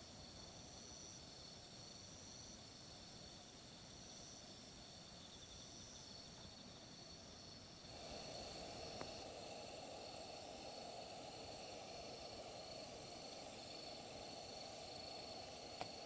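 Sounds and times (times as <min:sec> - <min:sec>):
insects chirping: 0:00.0 - 0:16.0
soft hiss: 0:00.0 - 0:16.0.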